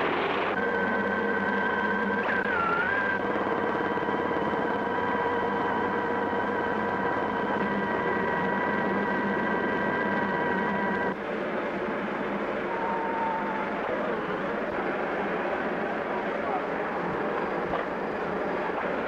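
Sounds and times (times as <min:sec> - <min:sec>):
helicopter turbine whine: 0:00.0 - 0:19.0
rushing engine noise: 0:00.0 - 0:19.0.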